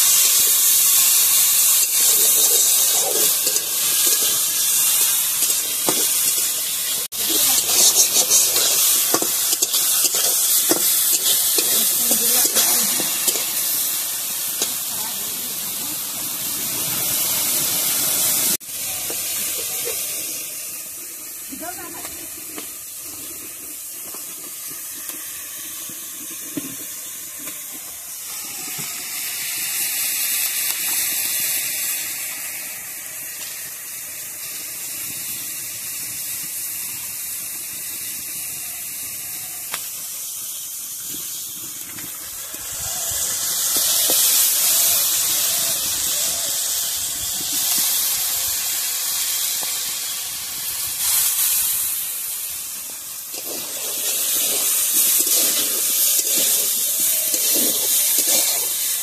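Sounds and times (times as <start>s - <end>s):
food sizzling in hot oil: 0.0s - 59.0s.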